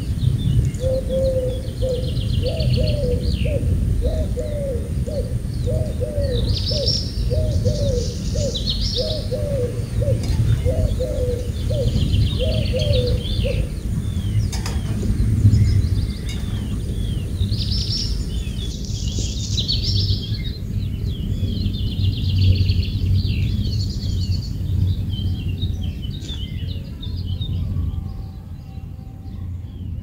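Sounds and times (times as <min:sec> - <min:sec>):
low background rumble: 0:00.0 - 0:30.0
small birds chirping: 0:00.0 - 0:30.0.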